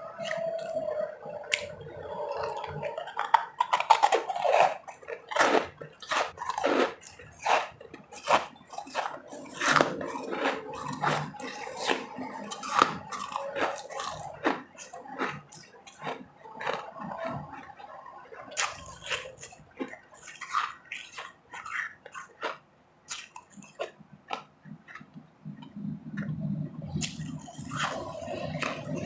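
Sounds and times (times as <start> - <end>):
chewing ice crunches: 0.0 - 17.8, 18.4 - 25.1, 26.9 - 29.0.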